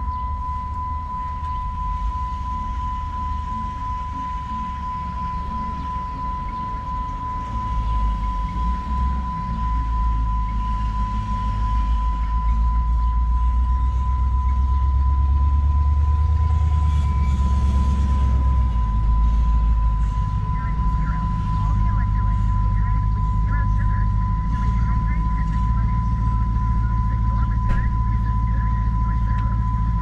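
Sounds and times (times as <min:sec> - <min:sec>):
car engine and road noise: 0:00.0 - 0:30.0
steady high-pitched tone: 0:00.0 - 0:30.0.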